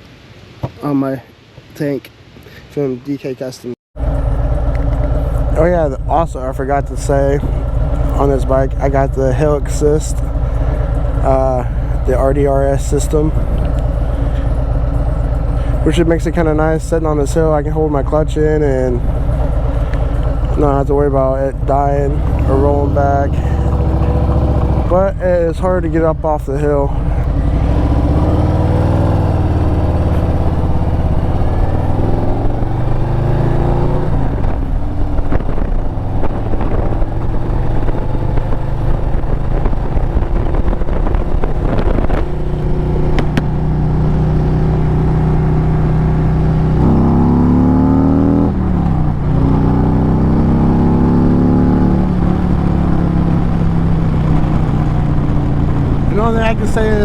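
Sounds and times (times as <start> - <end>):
motorcycle engine shifting gears: 4.0 - 57.0.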